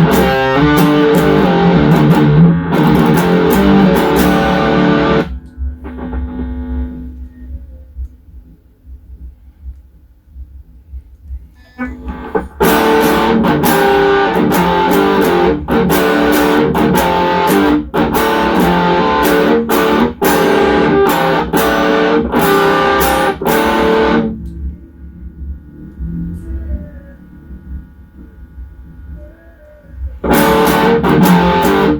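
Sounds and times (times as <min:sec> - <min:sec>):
distorted electric guitar riffs: 0:00.0 - 0:07.6, 0:11.7 - 0:29.2, 0:30.0 - 0:31.9
low hum: 0:00.0 - 0:17.2, 0:19.6 - 0:31.6.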